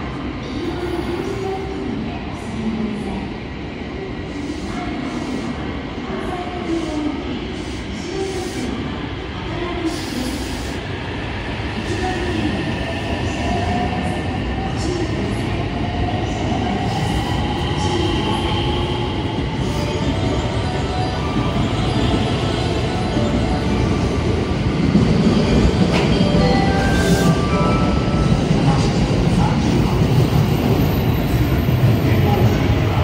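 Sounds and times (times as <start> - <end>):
train rumble and wheel clatter: 0.0 - 33.0.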